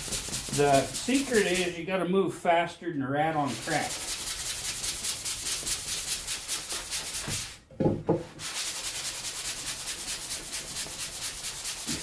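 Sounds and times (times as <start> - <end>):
sanding sponge rubbing wood: 0.0 - 1.8, 3.4 - 7.6, 8.3 - 12.0.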